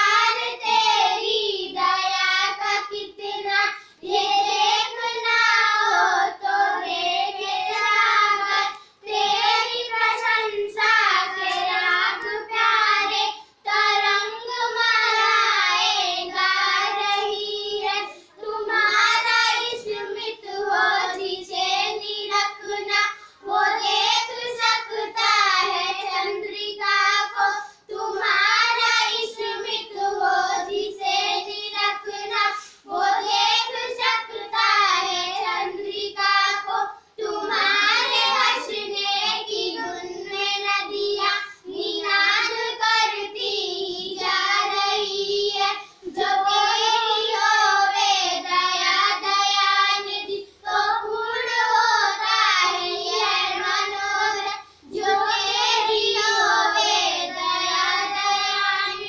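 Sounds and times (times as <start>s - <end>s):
girls singing in unison: 0.0s - 59.0s.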